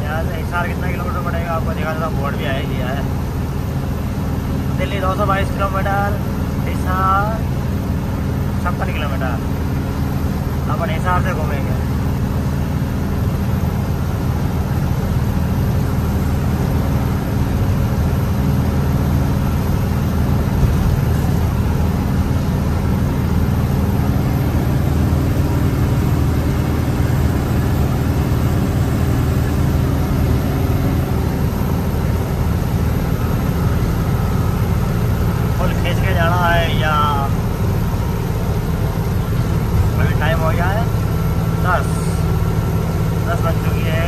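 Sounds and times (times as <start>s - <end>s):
road noise: 0.0s - 44.0s
truck diesel engine droning: 0.0s - 44.0s.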